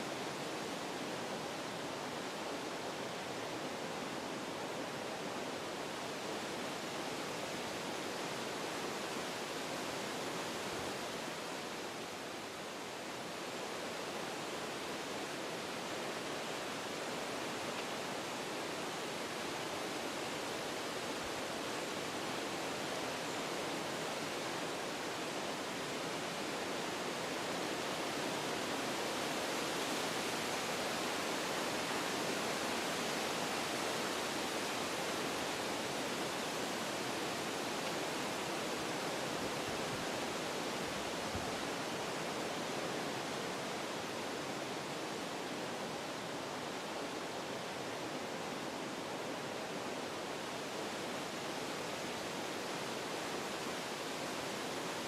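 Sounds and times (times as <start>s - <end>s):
wind rushing through trees: 0.0s - 55.0s.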